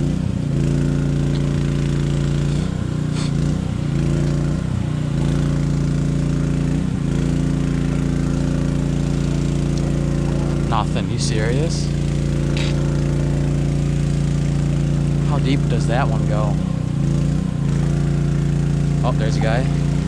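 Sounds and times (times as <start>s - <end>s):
small generator engine running: 0.0s - 20.0s.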